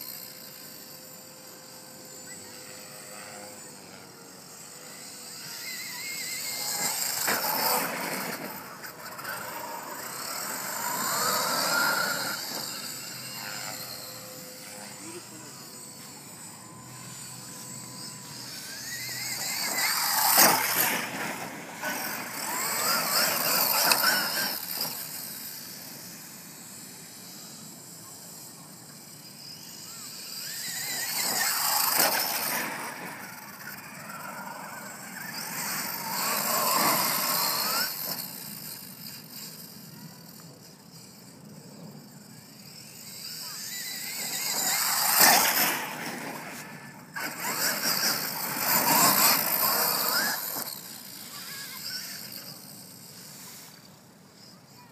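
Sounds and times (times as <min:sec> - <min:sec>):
electric motor whining: 0:00.0 - 0:54.9.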